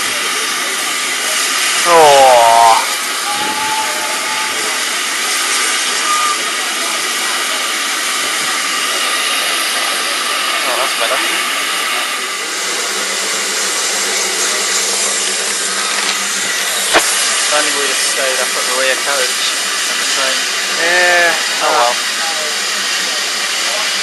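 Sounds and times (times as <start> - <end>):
faint voices: 0.0 - 24.0
steam locomotive venting steam: 0.0 - 24.0.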